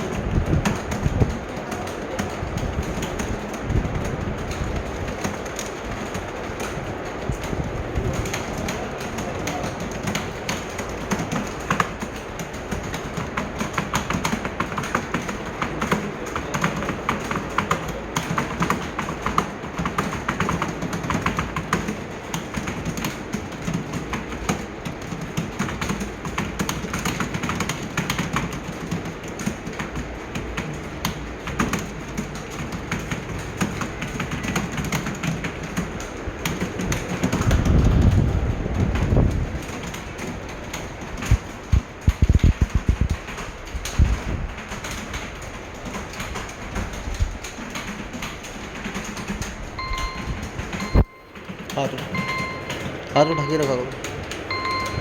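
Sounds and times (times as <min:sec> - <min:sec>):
keyboard typing clatter: 0:00.0 - 0:55.0.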